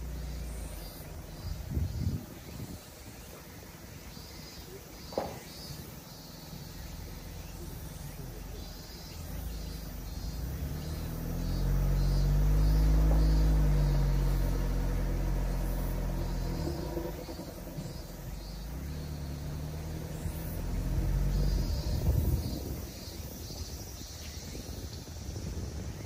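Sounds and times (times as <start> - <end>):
diesel engine pulling vehicle: 0.0 - 26.0
insects chirping: 0.0 - 26.0.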